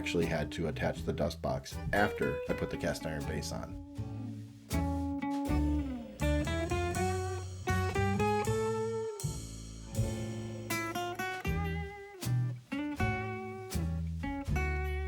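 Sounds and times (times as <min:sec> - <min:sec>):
guitar instrumental music: 0:00.0 - 0:15.0.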